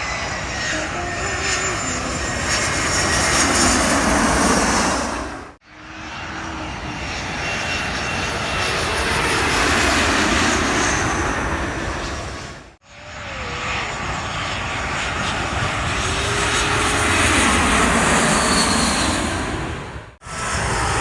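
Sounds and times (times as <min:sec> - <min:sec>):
jet airliner roar: 0:00.0 - 0:21.0.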